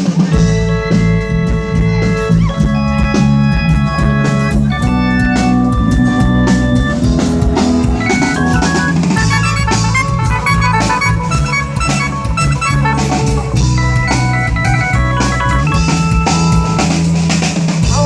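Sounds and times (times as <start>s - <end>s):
electronic organ melody: 0.0s - 17.8s
drum kit: 0.0s - 18.0s
sustained bass: 0.0s - 18.0s.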